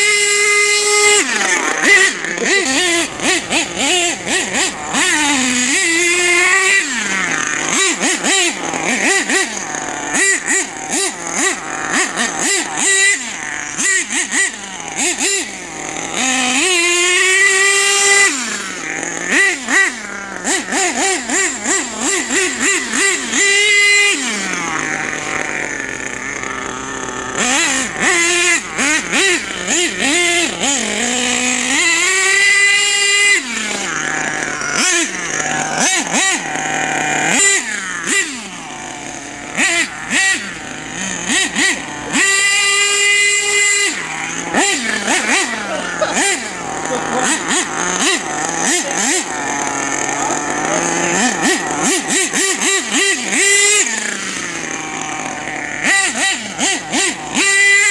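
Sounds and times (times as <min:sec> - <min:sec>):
small nitro engine revving: 0:00.0 - 0:57.9.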